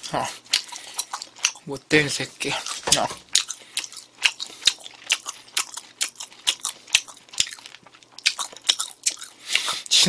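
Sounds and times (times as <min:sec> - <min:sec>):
crunchy chewing of food: 0:00.0 - 0:01.7, 0:02.4 - 0:09.9.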